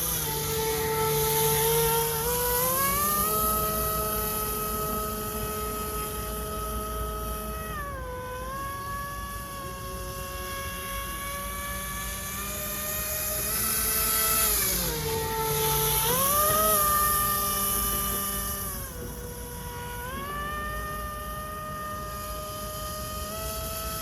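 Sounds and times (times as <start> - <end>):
electric motor and propeller whine: 0.0 - 24.0.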